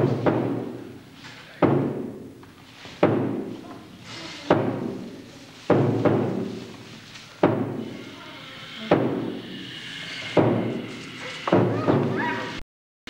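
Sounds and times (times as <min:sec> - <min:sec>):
heavy booming thuds in a hall: 0:00.0 - 0:08.2, 0:08.8 - 0:09.6, 0:10.2 - 0:12.6.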